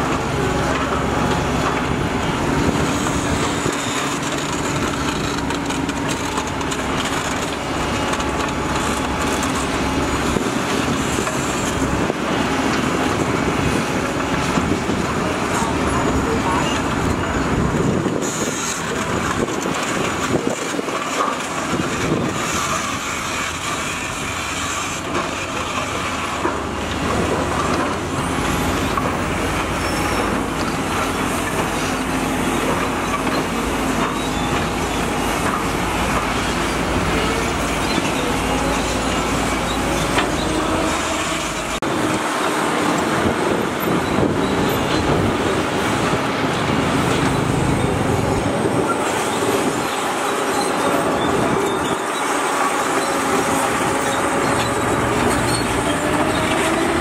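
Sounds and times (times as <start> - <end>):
heavy diesel vehicles running: 0.0 - 57.0.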